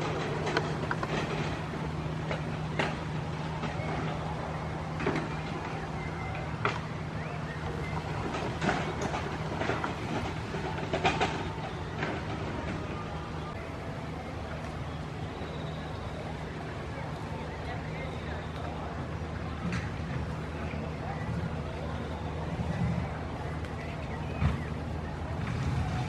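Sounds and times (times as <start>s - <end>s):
low mechanical hum: 0.0s - 26.0s
outdoor rumble: 0.0s - 26.0s.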